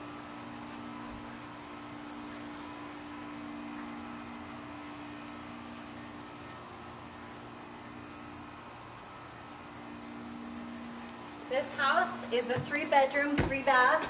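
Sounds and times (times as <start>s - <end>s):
insects chirping: 0.0s - 14.0s
low steady hum: 0.0s - 14.0s.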